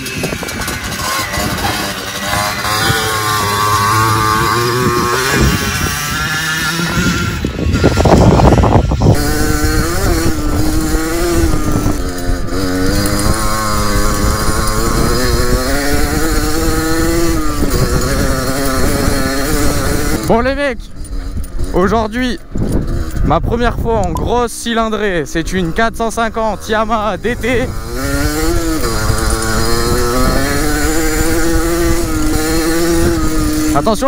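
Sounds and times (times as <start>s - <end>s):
two-stroke dirt bike engine buzzing: 0.0s - 34.0s.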